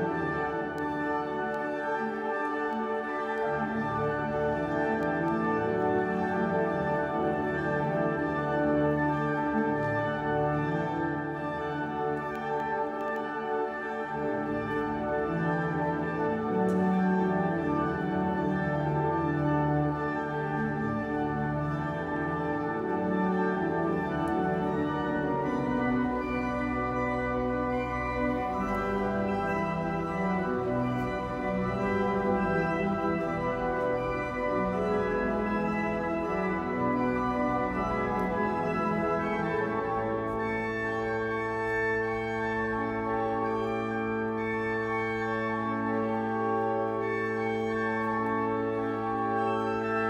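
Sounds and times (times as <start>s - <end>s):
pipe organ playing slow chords: 0.0s - 50.0s.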